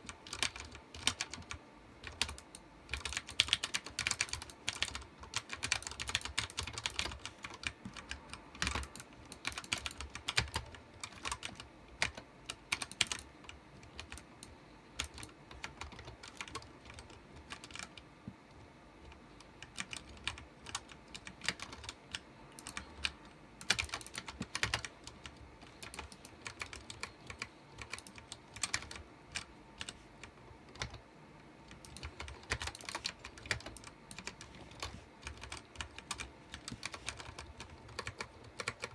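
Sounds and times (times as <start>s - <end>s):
mechanical keyboard typing: 0.0s - 31.0s, 31.6s - 38.9s.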